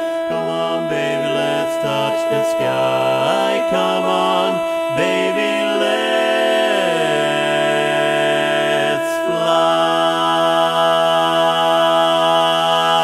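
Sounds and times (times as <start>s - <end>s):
barbershop quartet singing: 0.0s - 13.0s.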